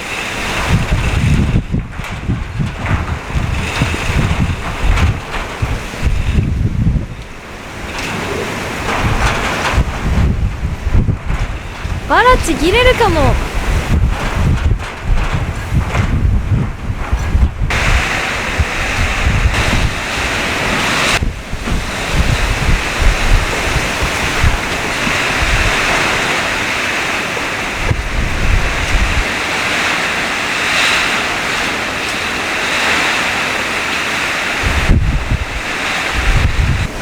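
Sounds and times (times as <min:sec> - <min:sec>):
wind buffeting on microphone: 0:00.0 - 0:31.7, 0:33.7 - 0:37.0
gusty wind through plants: 0:00.0 - 0:37.0.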